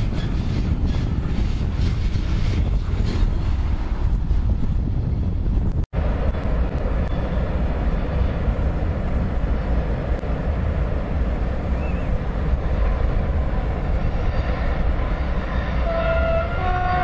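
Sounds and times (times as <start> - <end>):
train rumbling on tracks: 0.0 - 17.0
wind buffeting microphone: 0.0 - 17.0.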